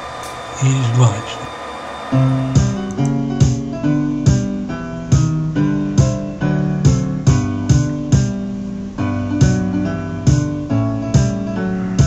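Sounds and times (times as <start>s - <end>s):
piano music: 2.1s - 12.0s.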